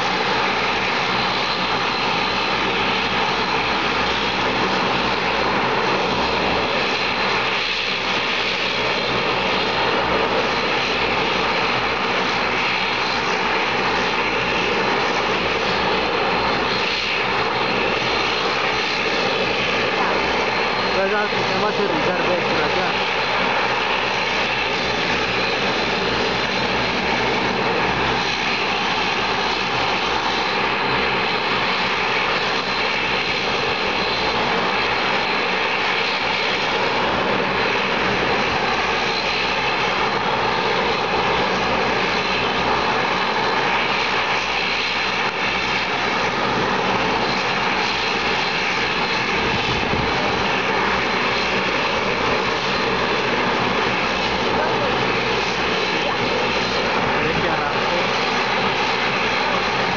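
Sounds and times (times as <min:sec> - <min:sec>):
high engine whine: 0:00.0 - 0:59.9
turboprop engines roaring: 0:00.0 - 0:59.9.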